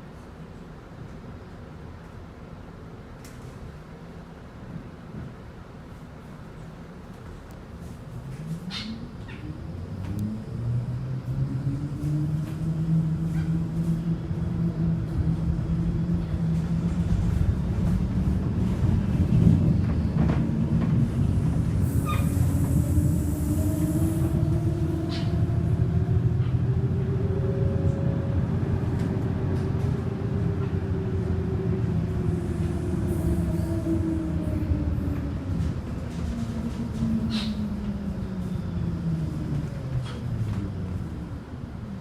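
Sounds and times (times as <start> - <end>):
bus engine rumble and whine: 0.0 - 42.0.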